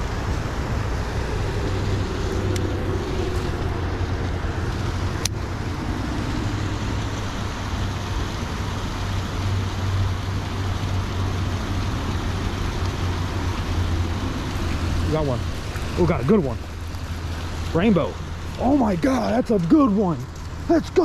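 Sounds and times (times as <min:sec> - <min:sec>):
low hum: 0:00.0 - 0:20.8
rushing outdoor background noise: 0:00.0 - 0:21.0.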